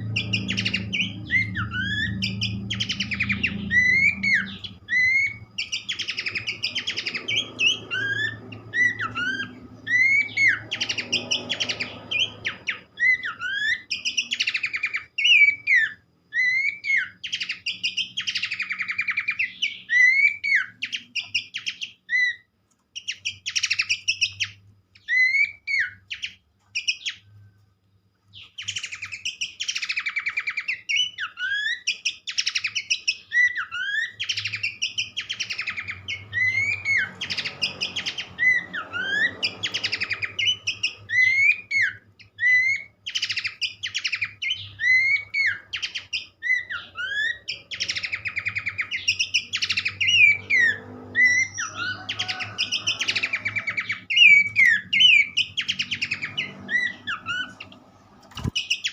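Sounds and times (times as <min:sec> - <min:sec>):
babbler singing: 0:00.0 - 0:27.4, 0:28.4 - 0:57.8.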